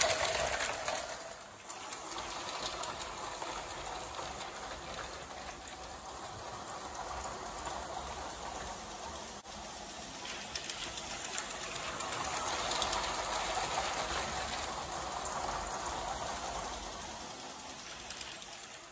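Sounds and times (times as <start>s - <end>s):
toy train motor whir: 0.0s - 18.9s
wheels clicking on track: 0.0s - 18.9s.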